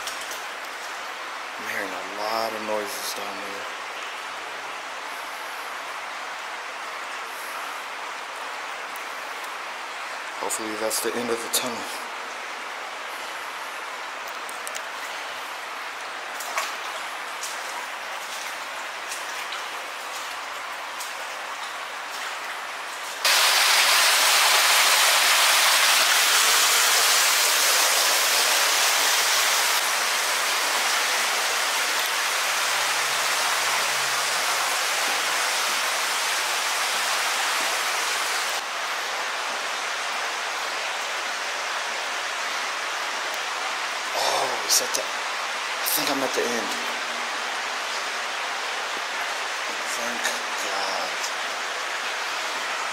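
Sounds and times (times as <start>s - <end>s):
water rushing in a tunnel: 0.0s - 52.9s.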